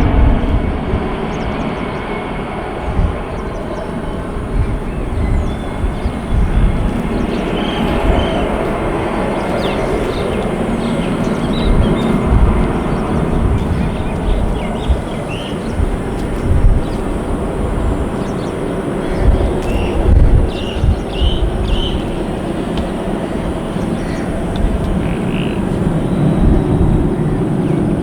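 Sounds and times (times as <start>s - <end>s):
jet engine rushing: 0.0s - 28.0s
wind buffeting microphone: 0.0s - 28.0s
bird chirps: 3.3s - 17.2s, 18.2s - 27.9s.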